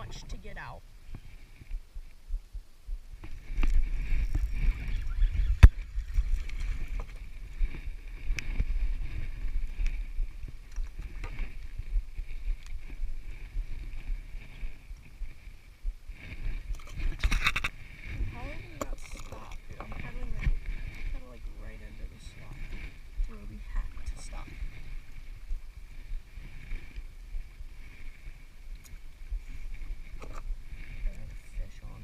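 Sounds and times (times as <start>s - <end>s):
steady high hum: 0.0s - 26.1s
water noise: 0.0s - 32.0s
wind noise: 0.0s - 32.0s.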